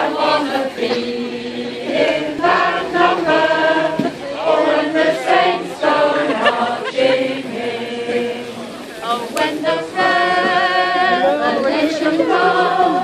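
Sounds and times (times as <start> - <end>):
crowd singing unaccompanied: 0.0 - 13.0.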